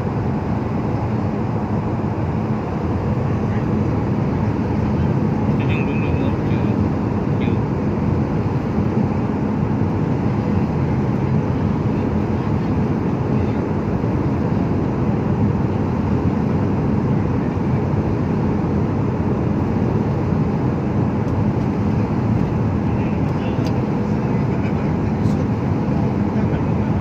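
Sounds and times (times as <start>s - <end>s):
jet airliner cabin roar: 0.0s - 27.0s.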